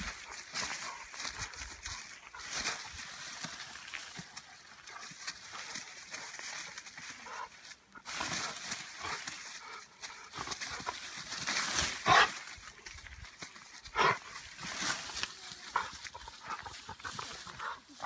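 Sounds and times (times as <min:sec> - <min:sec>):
leaves and twigs rustling: 0:00.0 - 0:18.0.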